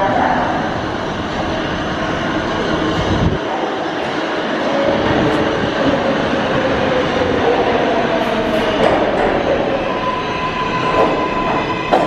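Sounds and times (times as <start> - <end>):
subway train wheels on rails: 0.0 - 12.0.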